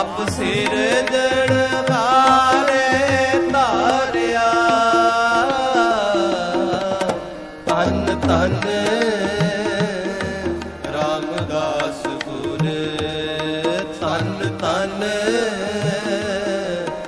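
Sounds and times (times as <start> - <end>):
devotional singing: 0.0 - 17.0
tabla: 0.0 - 17.0.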